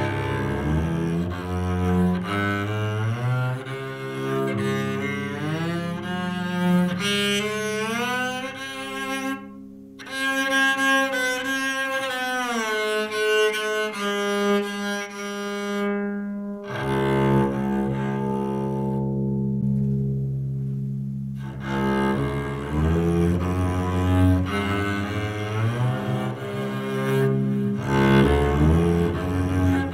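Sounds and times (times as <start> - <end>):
electric cello bowed: 0.0 - 29.9.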